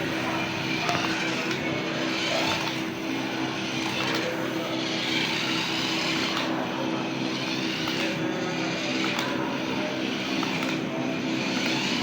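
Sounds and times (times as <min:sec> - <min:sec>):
toy car motor whining: 0:00.0 - 0:12.0.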